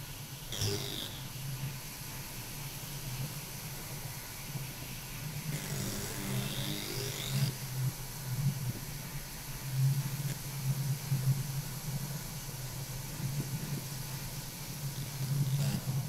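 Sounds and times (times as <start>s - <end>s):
hiss: 0.0s - 16.0s
low steady hum: 0.0s - 16.0s.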